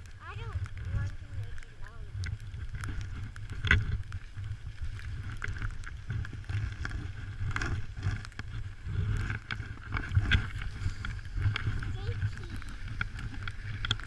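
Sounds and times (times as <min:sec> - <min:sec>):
wind rumble on microphone: 0:00.0 - 0:14.0
skis scraping over snow: 0:00.2 - 0:14.0.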